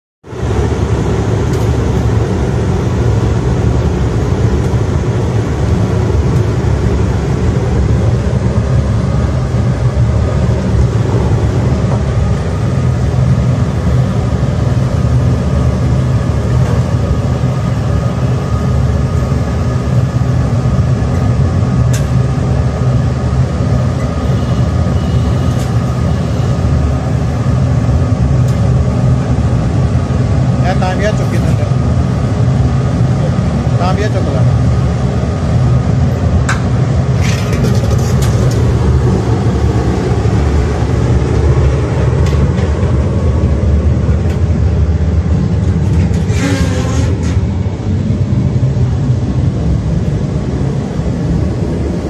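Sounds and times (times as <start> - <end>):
low machine rumble: 0.2 - 52.0.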